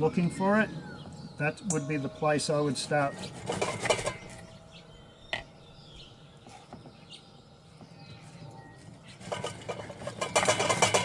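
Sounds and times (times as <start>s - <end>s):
faint bird chirps: 0.0s - 10.4s.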